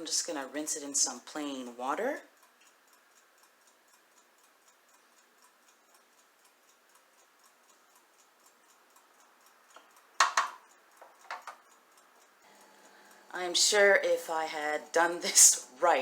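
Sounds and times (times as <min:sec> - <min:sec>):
faint clock ticking: 0:00.0 - 0:16.0.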